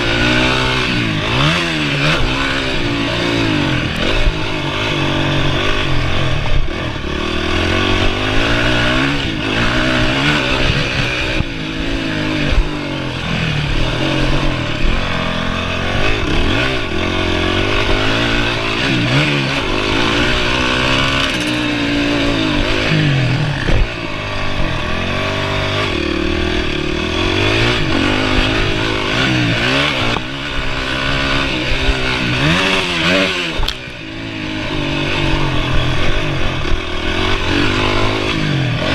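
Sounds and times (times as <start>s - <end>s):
motocross engine revving hard: 0.0s - 38.9s.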